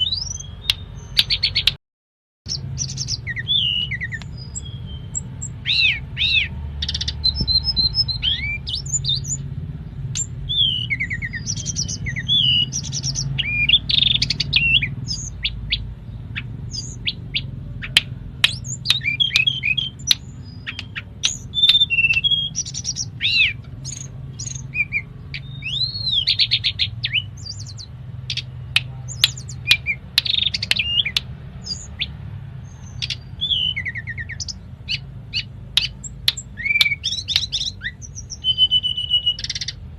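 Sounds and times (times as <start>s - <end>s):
songbird singing: 0.0s - 1.8s, 2.5s - 39.9s.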